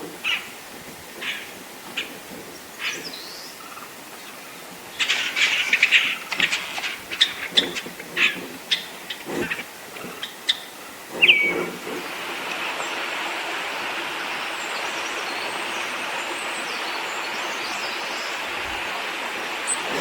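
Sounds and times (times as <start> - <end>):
flowing water rushing: 0.0 - 20.0.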